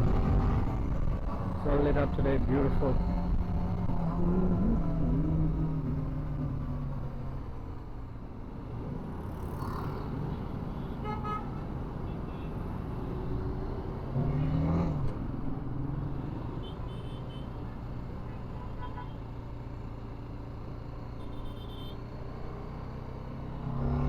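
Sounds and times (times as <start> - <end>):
motorcycle engine and road noise: 0.0 - 24.0.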